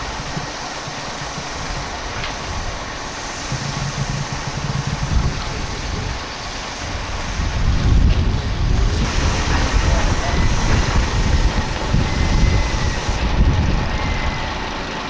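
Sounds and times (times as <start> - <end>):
heavy vehicle engine running low: 0.0 - 15.0
outdoor noise: 0.0 - 15.0.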